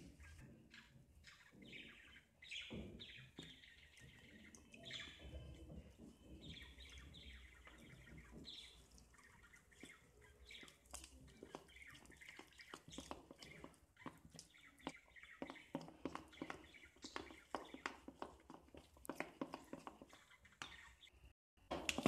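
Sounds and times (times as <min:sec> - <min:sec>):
faint birds chirping: 0:00.0 - 0:21.4.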